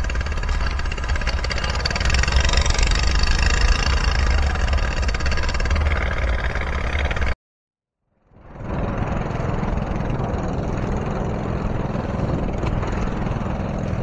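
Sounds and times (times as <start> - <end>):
small boat engine running: 0.0 - 7.4, 8.2 - 14.0.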